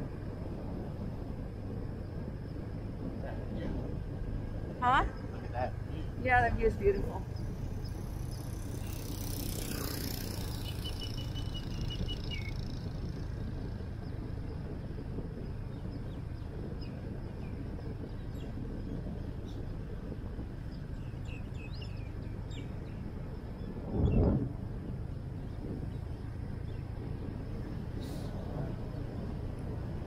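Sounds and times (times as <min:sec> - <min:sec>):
motorbike engine rumble: 0:00.0 - 0:30.0
wind noise on microphone: 0:00.0 - 0:30.0.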